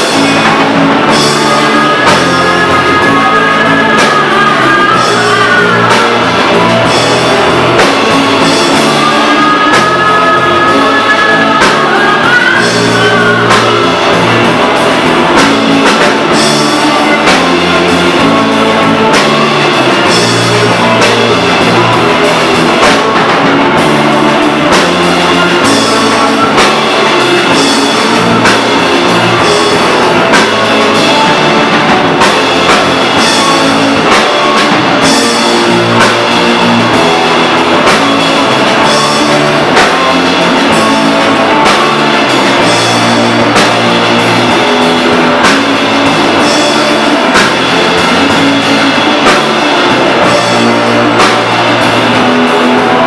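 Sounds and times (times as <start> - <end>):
rock band playing live: 0.0 - 53.0.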